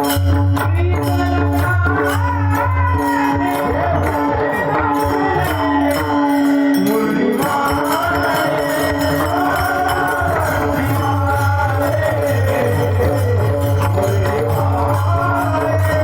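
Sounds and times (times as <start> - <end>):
jingling percussion: 0.0 - 16.0
man singing devotional song: 0.0 - 16.0.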